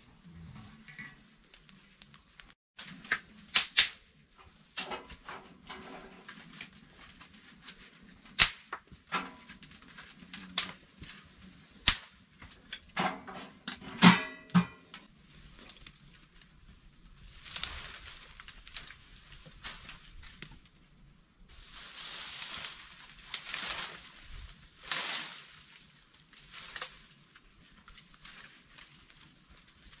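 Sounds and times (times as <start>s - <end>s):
twigs cracking: 0.8s - 4.1s, 6.4s - 12.9s, 14.9s - 30.0s.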